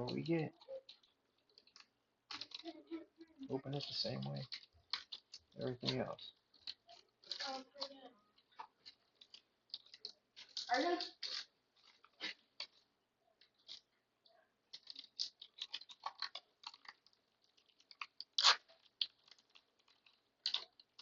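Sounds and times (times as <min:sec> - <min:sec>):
card pack wrapper crinkling: 0:00.1 - 0:02.7, 0:03.6 - 0:12.8, 0:14.7 - 0:21.0.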